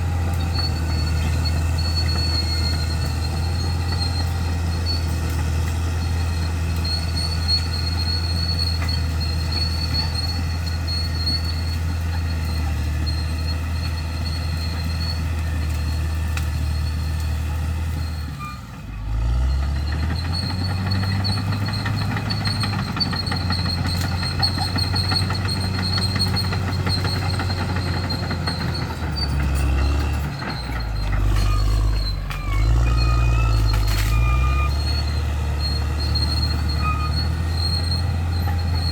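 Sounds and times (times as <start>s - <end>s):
bulldozer diesel engine running: 0.0s - 38.9s
short squeals: 0.0s - 38.9s.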